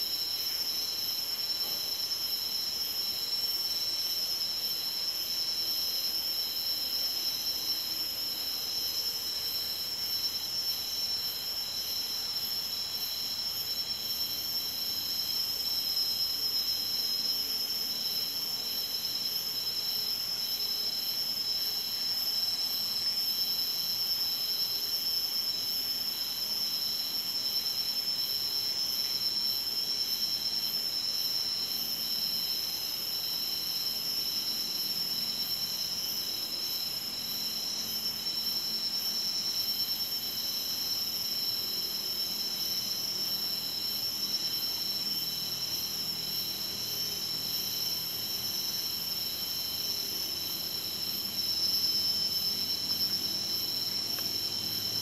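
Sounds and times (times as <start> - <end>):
insect pulsing trill: 0.0 - 55.0
insects trilling: 0.0 - 55.0.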